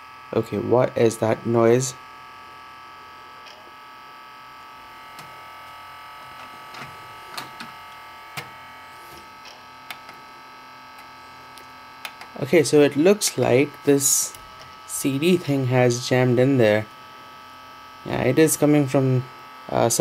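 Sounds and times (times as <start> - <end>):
cd changer grinding buzz: 0.0 - 20.0.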